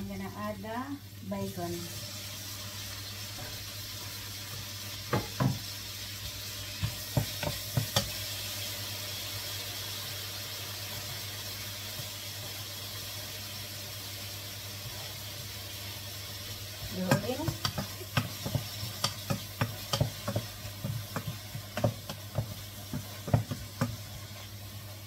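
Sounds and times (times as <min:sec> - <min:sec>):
food sizzling in butter: 0:00.0 - 0:25.0.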